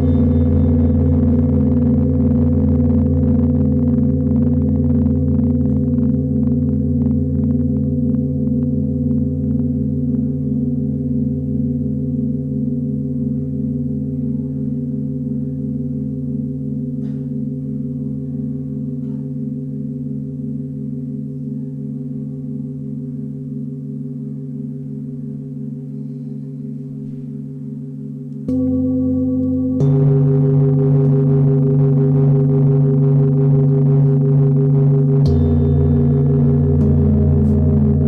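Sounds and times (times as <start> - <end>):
deep gong ringing: 0.0 - 23.2, 28.4 - 38.0.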